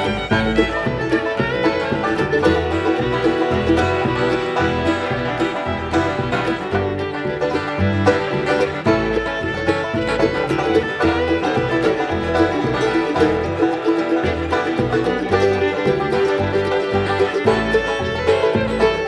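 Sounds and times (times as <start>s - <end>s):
banjo picking: 0.0s - 19.0s
bluegrass band playing: 0.0s - 19.0s
guitar: 0.0s - 19.0s
low bass notes: 0.0s - 19.0s.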